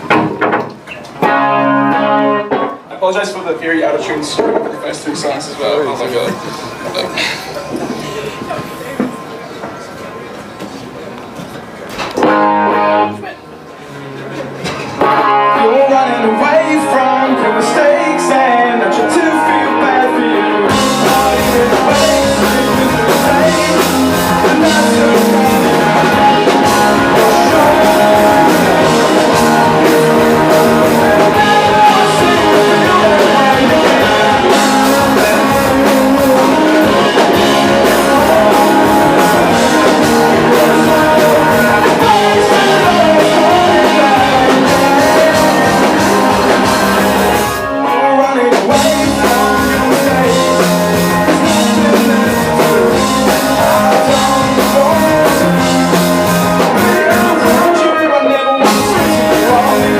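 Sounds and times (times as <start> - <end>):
drums: 0.0 - 2.9, 4.2 - 13.7, 14.4 - 59.9
electric guitar: 0.0 - 2.9, 11.3 - 59.9
live rock band playing: 0.0 - 2.9, 12.0 - 13.3, 14.7 - 59.9.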